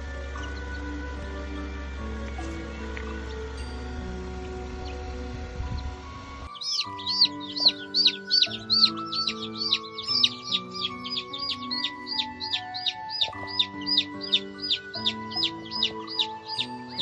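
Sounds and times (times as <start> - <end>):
background music of held chords: 0.0 - 17.0
high rising and falling peeps: 3.1 - 17.0.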